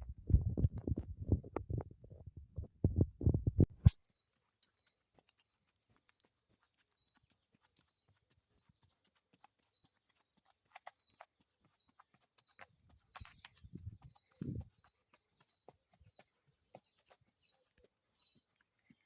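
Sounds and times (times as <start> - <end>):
horse hooves clip-clopping: 0.3 - 19.0.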